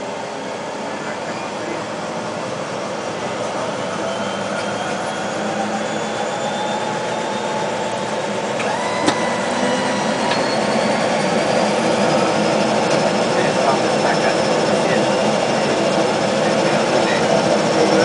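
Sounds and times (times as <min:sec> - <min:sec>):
rising whines: 0:00.0 - 0:18.0
turboprop engine winding up: 0:00.0 - 0:18.0.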